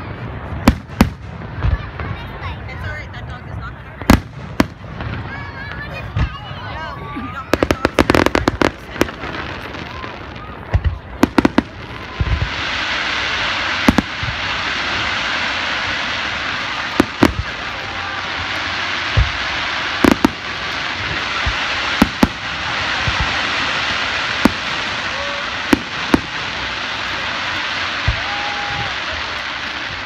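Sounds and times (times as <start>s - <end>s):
fireworks bursting with booms: 0.0s - 30.0s
steady rushing hiss: 0.0s - 30.0s.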